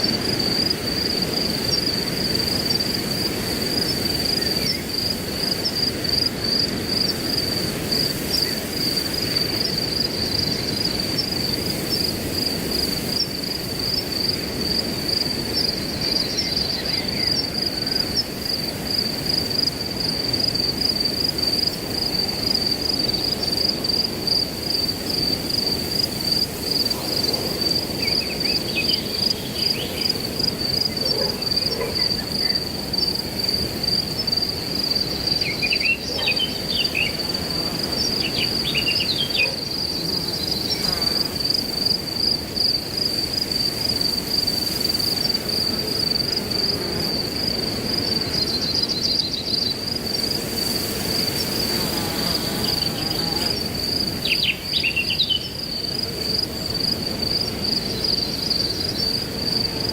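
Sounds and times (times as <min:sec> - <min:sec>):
crickets chirping: 0:00.0 - 0:59.9
wind rustling through grass: 0:00.0 - 0:59.9.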